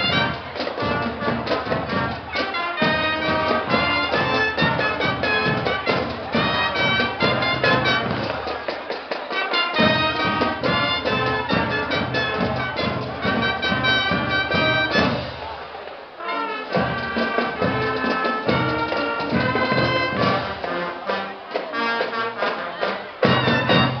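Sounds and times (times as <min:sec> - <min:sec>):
steady drum beat: 0:00.0 - 0:15.7, 0:16.4 - 0:24.0
brass band music: 0:00.0 - 0:24.0.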